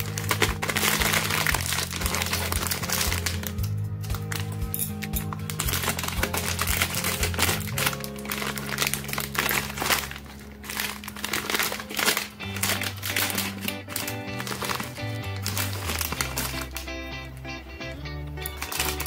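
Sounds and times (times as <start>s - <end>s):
scissors cutting foil: 0.0s - 16.9s, 18.4s - 19.0s
foil wrapper crinkling: 0.0s - 17.0s, 18.4s - 19.0s
background music: 0.0s - 19.0s.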